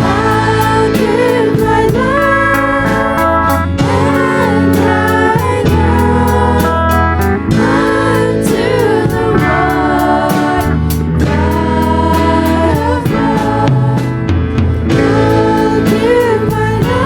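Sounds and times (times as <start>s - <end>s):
band playing: 0.0s - 17.0s
bass notes: 0.0s - 17.0s
drum and cymbal strokes: 0.0s - 17.0s
voices singing: 0.0s - 17.0s.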